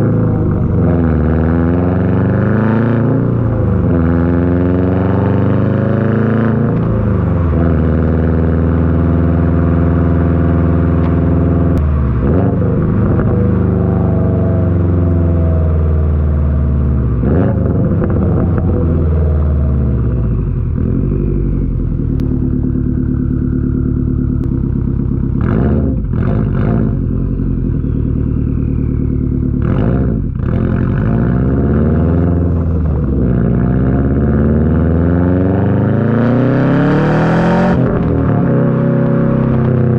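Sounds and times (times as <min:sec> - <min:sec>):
car exhaust rising and falling: 0:00.0 - 0:39.9.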